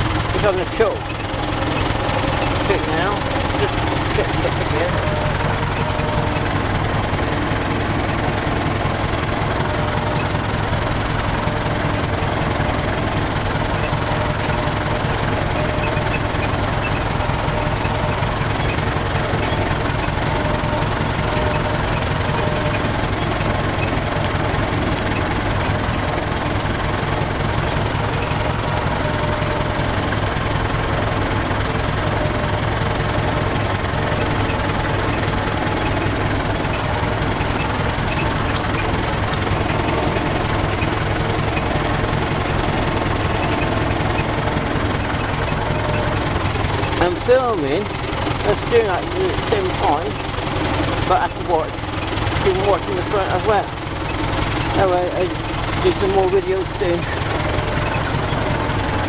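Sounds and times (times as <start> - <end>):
tractor engine at tickover: 0.0 - 59.0.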